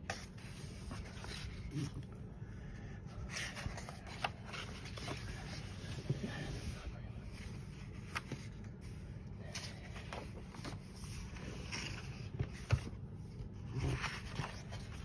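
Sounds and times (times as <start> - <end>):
paper pages rustling: 0.0 - 2.0, 3.2 - 15.0.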